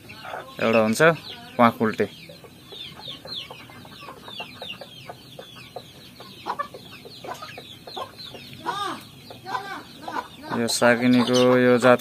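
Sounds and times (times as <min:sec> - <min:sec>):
chicks peeping: 0:00.0 - 0:12.0
hens clucking: 0:00.0 - 0:12.0.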